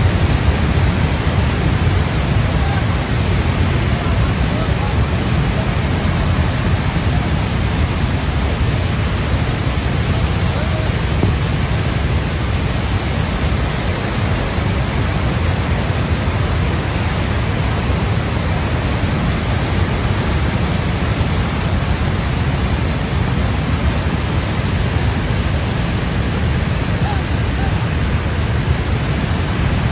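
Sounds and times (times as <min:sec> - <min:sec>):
floodwater rushing roar: 0:00.0 - 0:29.9.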